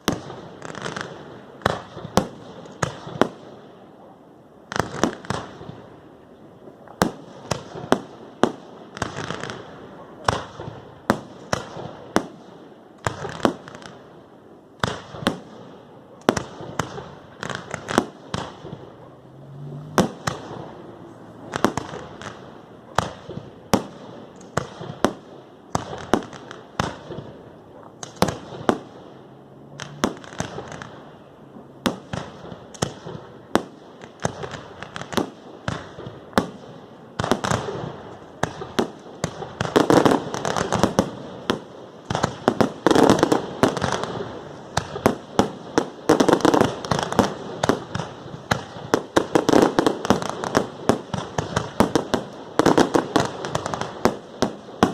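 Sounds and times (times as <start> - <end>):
fireworks bangs: 0.0 - 4.0, 4.7 - 14.2, 14.8 - 54.9.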